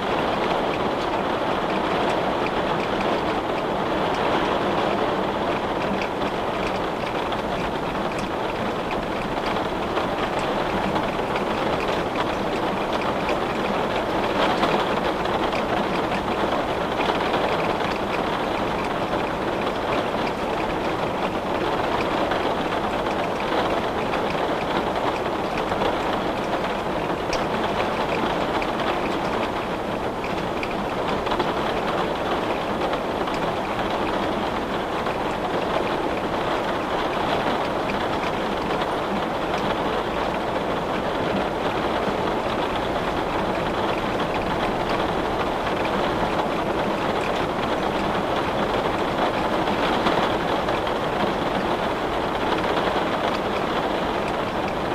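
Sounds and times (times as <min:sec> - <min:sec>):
rain on a window: 0:00.0 - 0:54.9.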